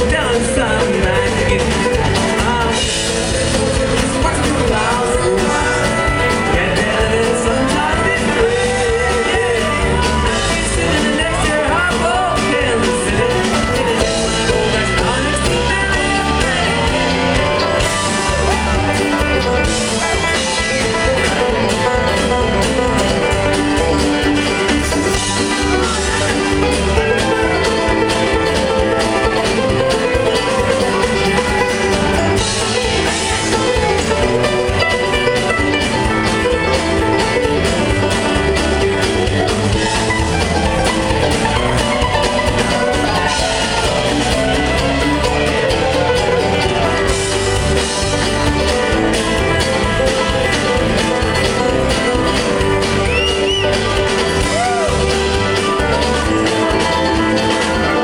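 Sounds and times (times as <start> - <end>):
acoustic guitar: 0.0 - 58.0
blues harmonica: 0.0 - 58.0
drums: 0.0 - 58.0
electric guitar: 0.0 - 58.0
person singing: 0.0 - 58.0.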